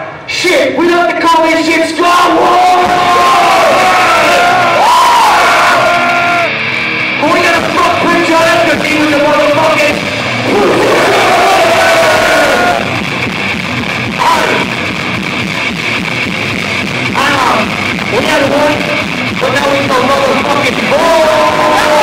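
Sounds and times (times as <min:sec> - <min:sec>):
crowd yelling and singing: 0:02.0 - 0:22.0
loud rock music with guitar: 0:02.2 - 0:22.0.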